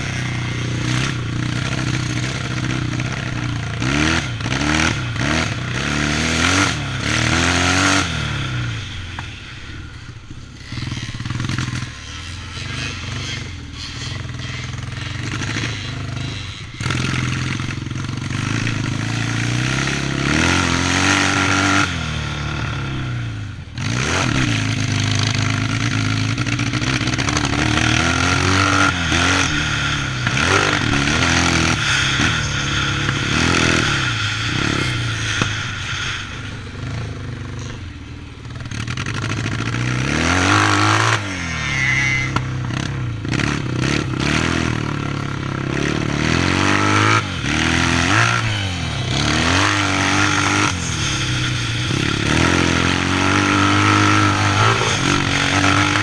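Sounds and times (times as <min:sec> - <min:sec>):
clatter: 0:00.0 - 0:56.0
motocross bike engine revving: 0:00.0 - 0:56.0.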